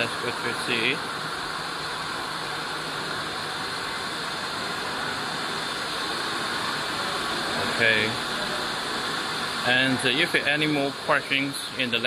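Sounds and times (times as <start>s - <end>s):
machinery hiss: 2.0s - 12.0s.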